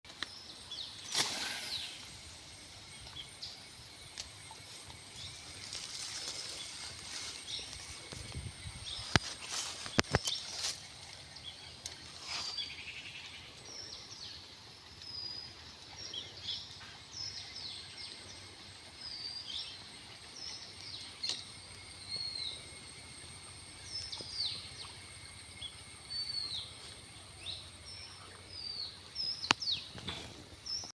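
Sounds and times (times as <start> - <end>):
wild birds chirping: 0.0 - 30.9.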